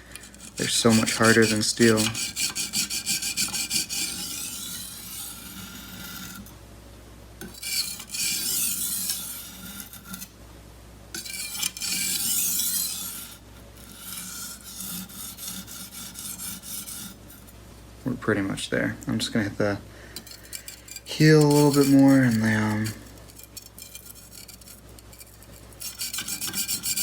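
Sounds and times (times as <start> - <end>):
knife scraping on whetstone: 0.0 - 6.5, 7.4 - 10.3, 11.2 - 17.6, 20.2 - 27.0.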